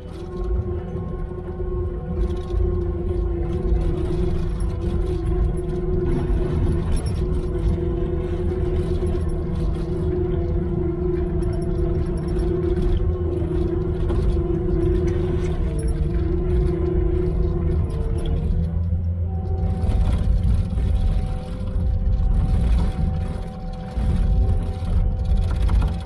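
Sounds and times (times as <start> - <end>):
steady whine: 0.0 - 26.0.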